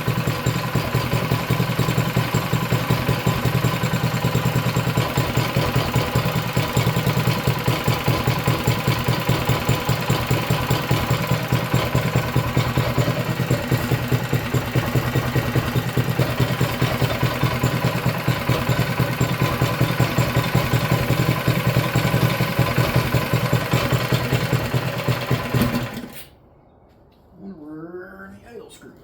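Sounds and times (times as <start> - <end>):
small engine idling: 0.0 - 26.2.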